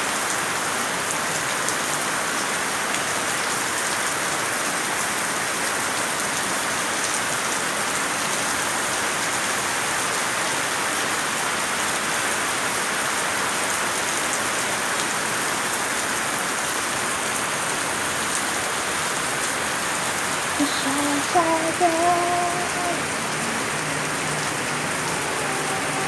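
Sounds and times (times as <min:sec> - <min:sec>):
rain pattering: 0:00.1 - 0:26.0.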